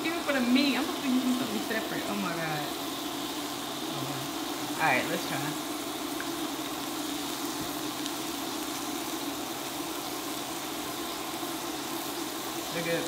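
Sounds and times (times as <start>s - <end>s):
appliance hum and hiss: 0.0s - 13.0s.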